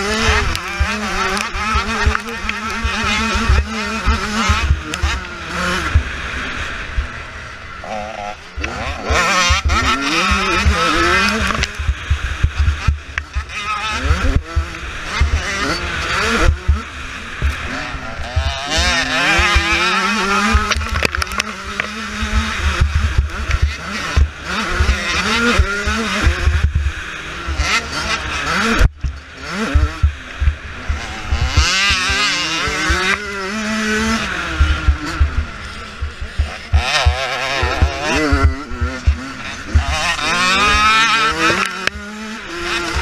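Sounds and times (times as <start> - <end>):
two-stroke engine revving: 0.0 - 43.0.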